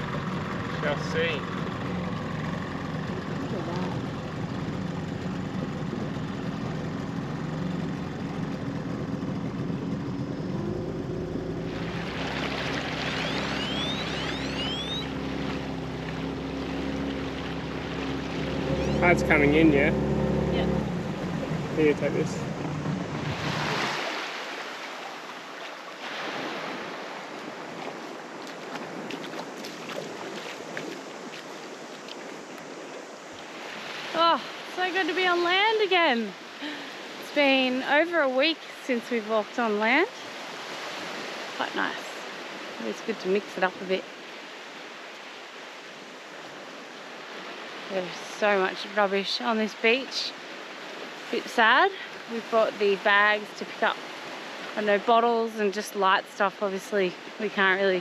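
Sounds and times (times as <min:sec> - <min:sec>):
outboard motor running: 0:00.0 - 0:58.0
rushing water and wind: 0:00.0 - 0:58.0
small waves washing on beach: 0:00.0 - 0:58.0.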